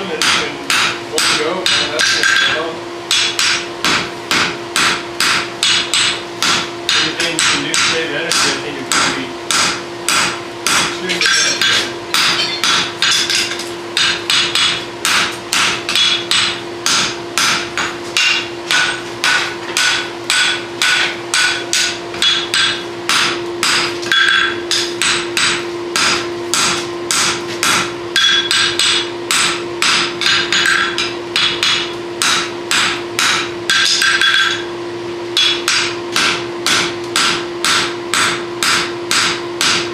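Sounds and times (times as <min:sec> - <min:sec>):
hammers striking steel on anvil: 0:00.0 - 0:39.9.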